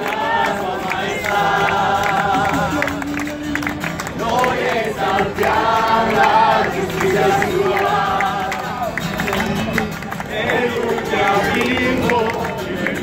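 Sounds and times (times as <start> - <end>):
group singing a worship song: 0.0 - 8.9, 10.2 - 13.0
acoustic guitar: 0.0 - 13.0.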